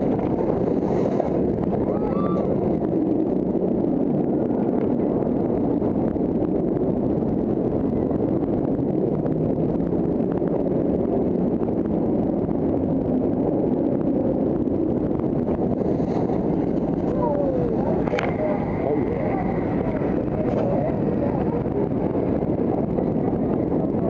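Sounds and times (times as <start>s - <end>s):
roller coaster running on track: 0.0s - 24.0s
wind buffeting microphone: 0.0s - 24.0s.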